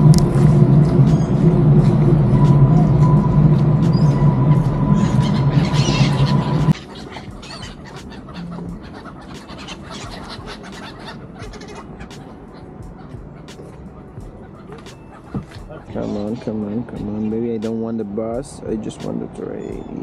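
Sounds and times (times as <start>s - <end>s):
gulls calling: 0.0s - 20.0s
low rumble of city traffic: 0.0s - 20.0s.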